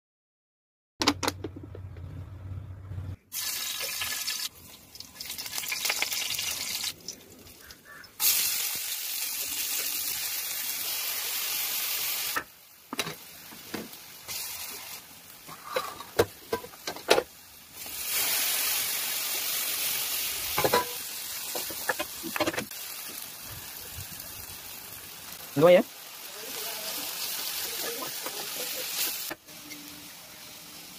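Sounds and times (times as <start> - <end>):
food sizzling in hot oil: 3.3 - 30.9.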